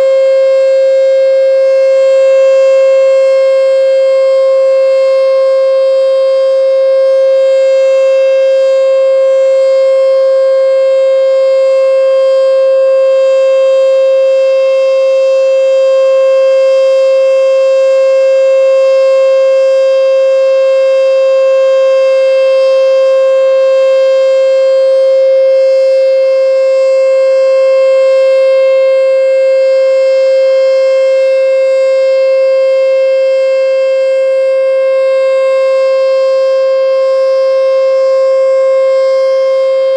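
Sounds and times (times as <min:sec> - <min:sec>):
steady warning siren tone: 0:00.0 - 0:39.9.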